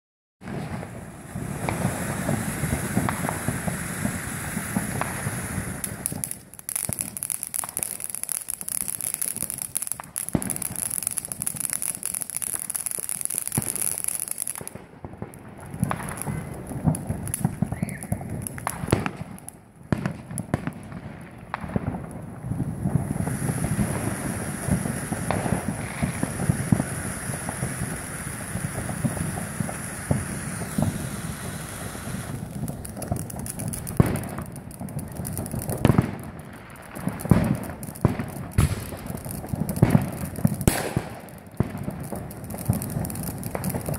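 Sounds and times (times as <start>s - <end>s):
fireworks crackling and popping: 0.4s - 43.9s.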